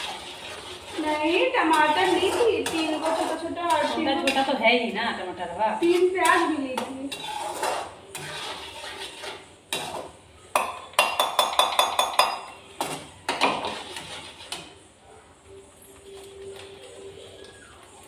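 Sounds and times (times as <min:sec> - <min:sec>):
metal spoon scraping frying pan: 0:00.0 - 0:14.8
paneer frying in oil: 0:00.0 - 0:15.0.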